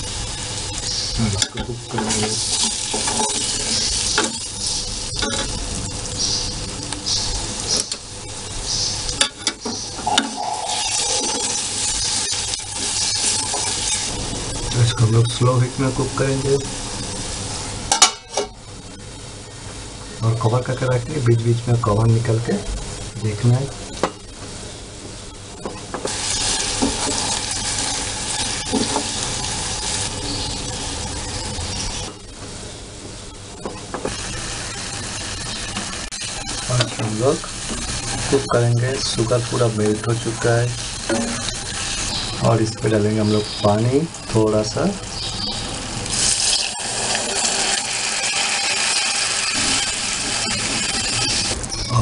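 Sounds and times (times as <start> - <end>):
fruit sizzling in a pan: 0.0 - 19.0, 26.0 - 32.6, 34.0 - 52.0.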